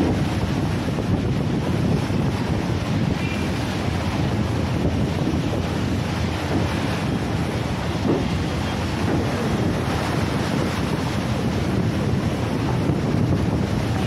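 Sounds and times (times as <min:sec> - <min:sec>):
choppy sea water rushing: 0:00.0 - 0:14.0
wind buffeting microphone: 0:00.0 - 0:14.0.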